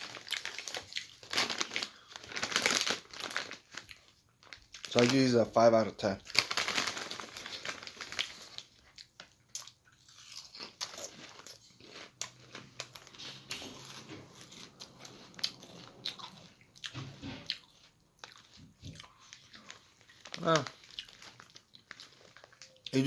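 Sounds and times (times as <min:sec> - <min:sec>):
person chewing potato chips: 0:00.0 - 0:05.1, 0:06.2 - 0:23.0.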